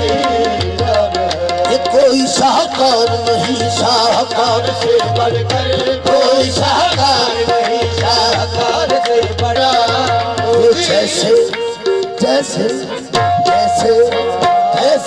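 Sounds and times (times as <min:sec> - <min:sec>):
hand drum rhythm: 0:00.0 - 0:15.0
harmonium melody and drone: 0:00.0 - 0:15.0.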